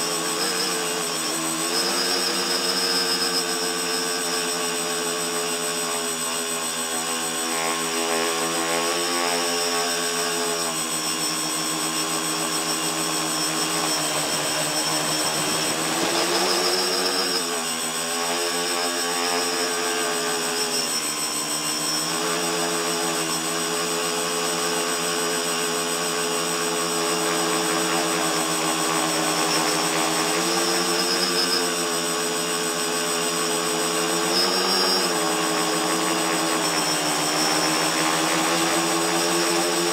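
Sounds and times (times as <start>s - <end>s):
drone motors buzzing whine: 0.0s - 39.9s.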